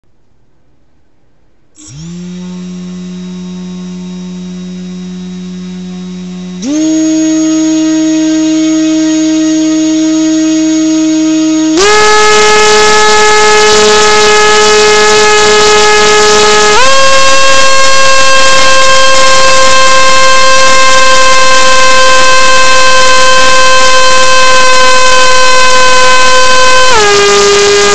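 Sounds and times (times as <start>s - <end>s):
drone motor whine: 1.8s - 27.9s.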